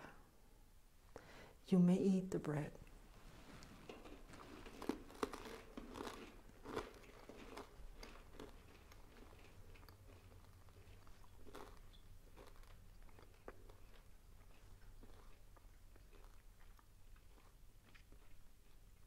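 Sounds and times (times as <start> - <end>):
crunching and chewing bread: 3.4 - 19.0.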